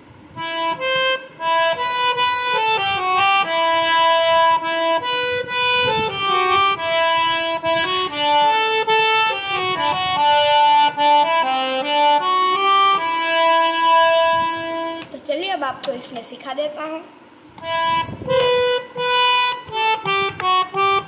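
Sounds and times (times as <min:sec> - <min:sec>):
harmonium slow melody: 0:00.0 - 0:15.2, 0:17.6 - 0:21.0.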